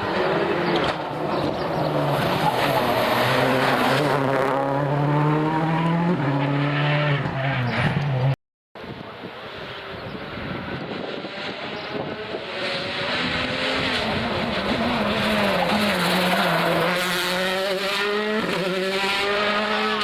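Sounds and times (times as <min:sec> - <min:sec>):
rally car engine: 0:00.0 - 0:20.0.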